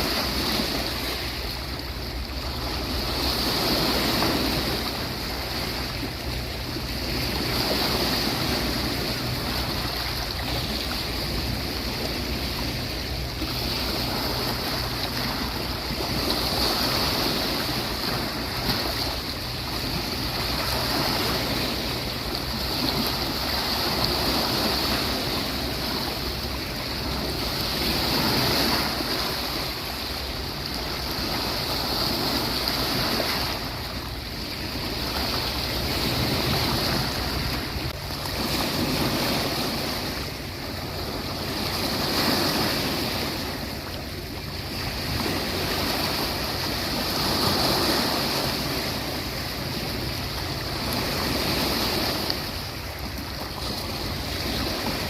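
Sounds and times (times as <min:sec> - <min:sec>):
waves washing onto beach: 0:00.0 - 0:55.0.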